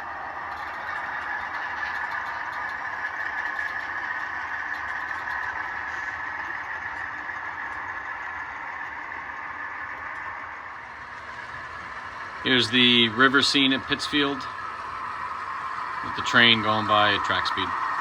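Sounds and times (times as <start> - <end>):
diesel locomotive engine through small speakers: 0.0 - 18.0.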